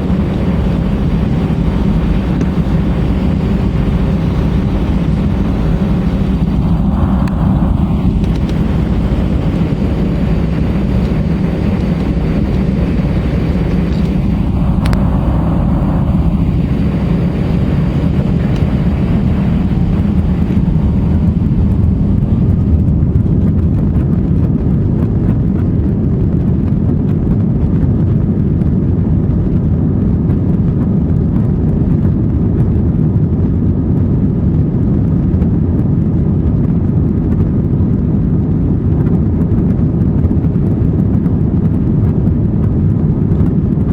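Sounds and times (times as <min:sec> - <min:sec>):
deep rumble: 0:00.0 - 0:43.9
jet engine noise in cabin: 0:00.0 - 0:43.9.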